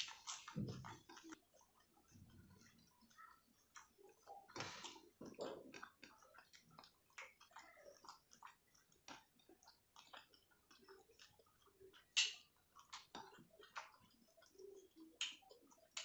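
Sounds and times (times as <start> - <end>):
wet chewing clicks: 0.0 - 16.0.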